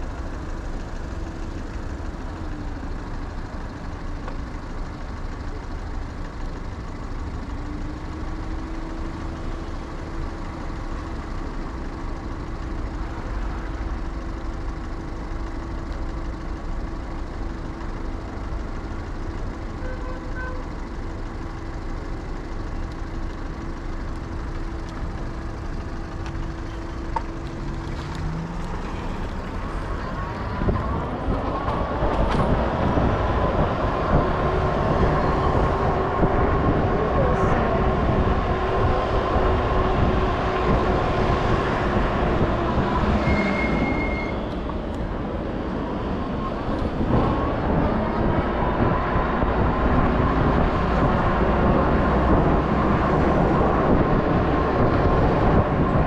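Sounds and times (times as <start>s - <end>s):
passing vehicles: 0.0s - 56.0s.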